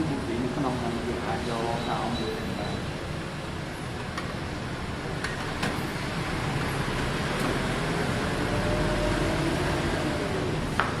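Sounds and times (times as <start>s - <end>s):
steady mechanical noise: 0.0s - 11.0s.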